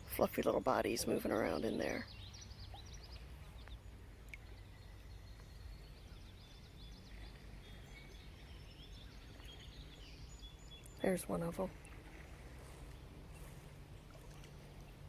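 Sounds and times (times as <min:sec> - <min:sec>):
low steady rumble: 0:00.0 - 0:15.0
small birds chirping: 0:00.1 - 0:15.0.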